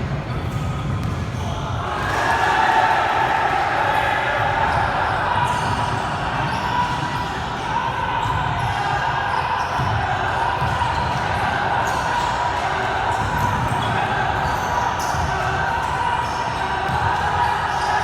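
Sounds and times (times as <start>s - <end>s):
basketball bouncing on court: 0.0s - 2.1s, 4.4s - 17.8s
crowd chatter: 0.0s - 18.0s.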